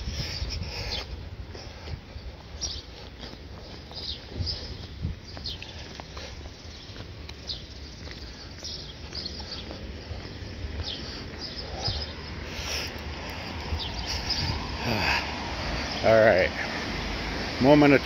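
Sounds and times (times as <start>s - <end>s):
steady low rumble: 0.0s - 17.4s
small birds chirping: 0.0s - 18.0s.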